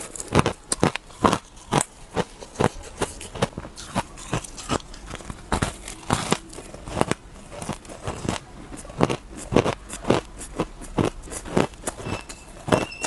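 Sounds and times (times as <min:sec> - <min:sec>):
chewing crunchy shaved ice: 0:00.0 - 0:13.0.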